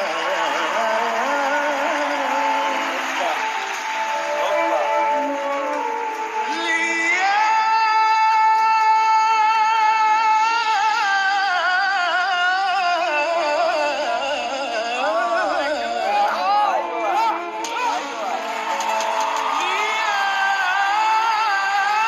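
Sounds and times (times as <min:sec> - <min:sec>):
person singing with vibrato: 0:00.0 - 0:18.3, 0:19.5 - 0:22.0.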